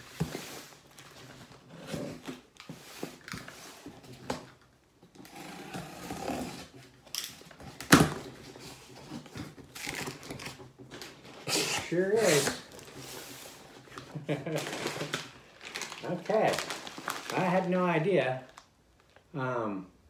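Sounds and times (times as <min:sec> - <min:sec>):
cardboard and tape scraping and rustling: 0:00.0 - 0:04.6, 0:05.2 - 0:17.8.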